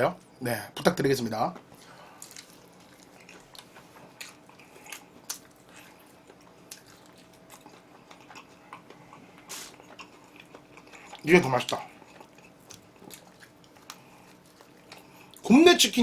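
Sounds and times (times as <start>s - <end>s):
faint steady hum: 0.0s - 16.0s
chewing crispy chicken: 1.6s - 15.5s.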